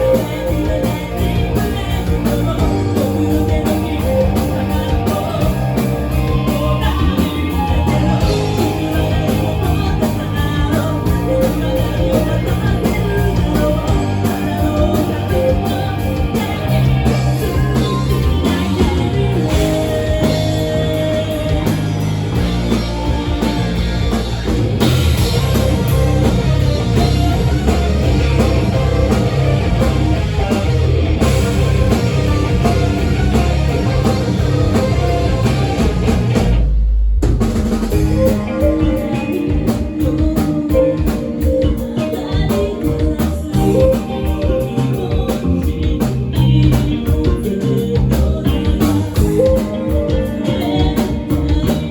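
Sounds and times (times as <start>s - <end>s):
person singing: 0.0s - 36.3s, 37.9s - 51.9s
bass guitar: 0.0s - 51.9s
drum kit: 0.0s - 51.9s
electric guitar: 0.0s - 51.9s.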